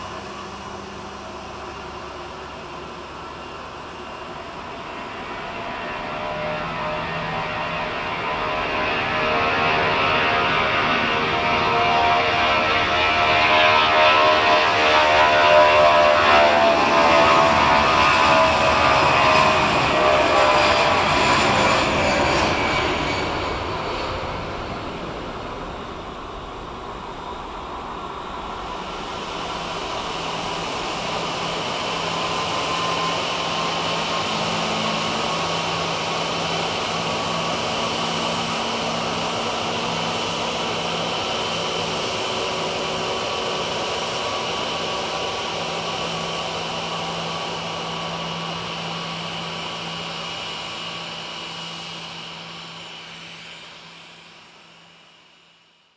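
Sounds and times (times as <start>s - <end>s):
jet engines with high whine: 0.0s - 55.9s.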